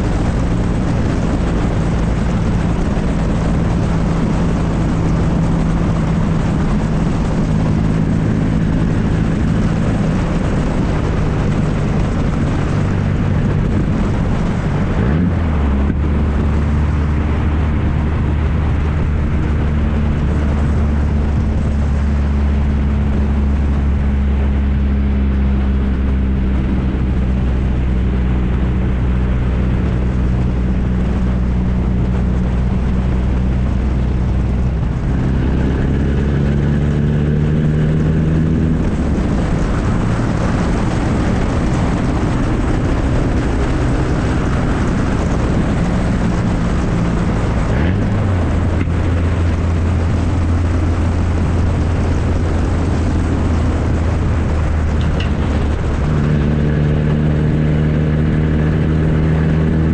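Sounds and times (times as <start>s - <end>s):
loud engine without muffler: 0.0s - 59.9s.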